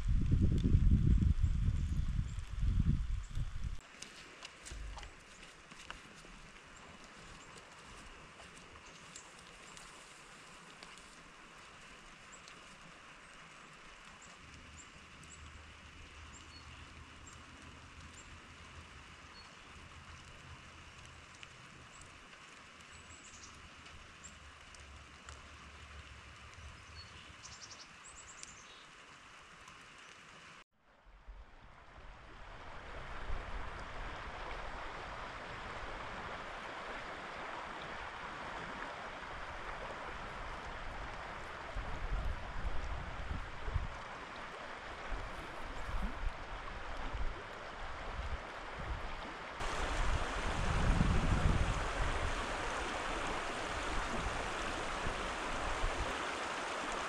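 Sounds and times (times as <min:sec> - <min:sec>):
running water rushing: 0:00.0 - 0:30.6, 0:31.5 - 0:57.0.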